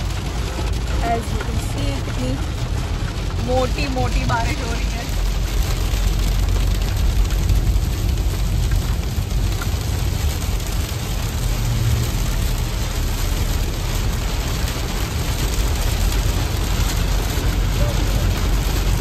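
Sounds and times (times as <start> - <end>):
heavy rain pelting a car: 0.0 - 19.0
low road rumble: 0.0 - 19.0.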